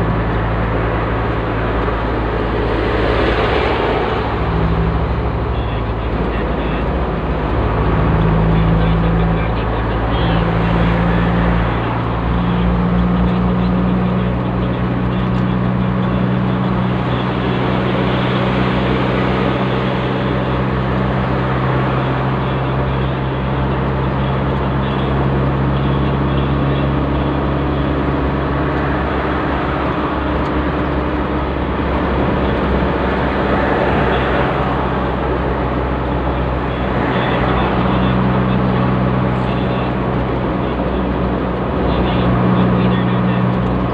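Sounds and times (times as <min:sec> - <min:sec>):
engine drone: 0:00.0 - 0:43.9
tyre and road noise: 0:00.0 - 0:43.9.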